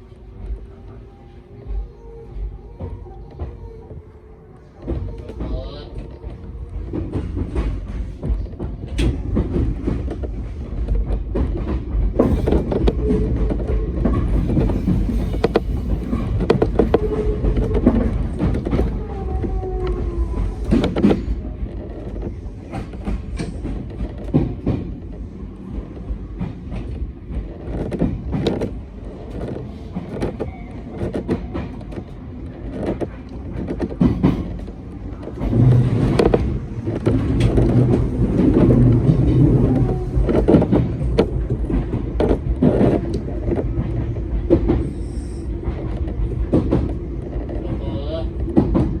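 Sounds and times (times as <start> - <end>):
train rumbling along track: 0.0 - 49.0.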